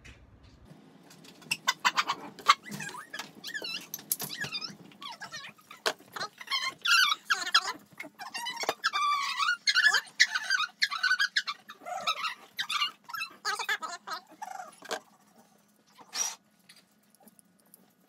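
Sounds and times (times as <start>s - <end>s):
animal squeaky chirps and whines: 1.4s - 16.4s.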